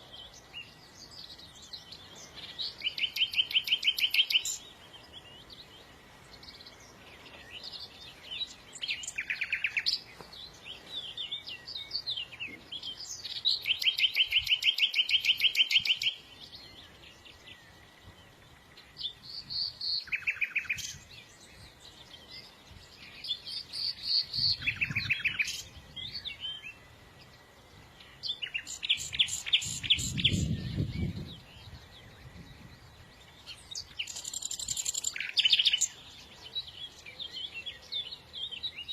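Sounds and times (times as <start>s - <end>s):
songbird trilling and chirping: 0.0s - 38.9s.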